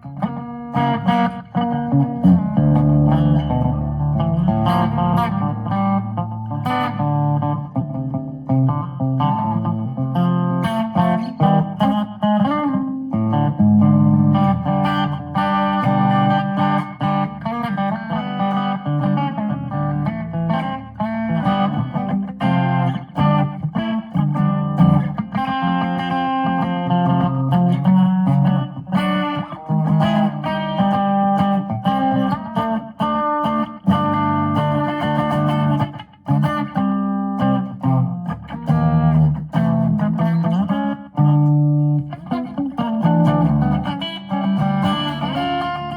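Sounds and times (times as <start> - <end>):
country electric guitar: 0.0 - 45.9.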